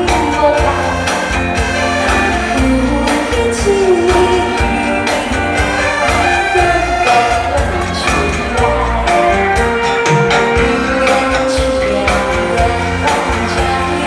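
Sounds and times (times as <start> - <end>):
backing track with steady beat: 0.0 - 14.0
person singing pop song: 0.0 - 14.0.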